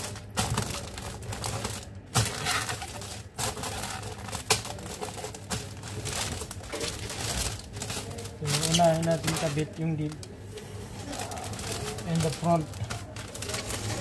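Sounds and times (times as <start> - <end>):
cellophane wrap crinkling: 0.0 - 14.0.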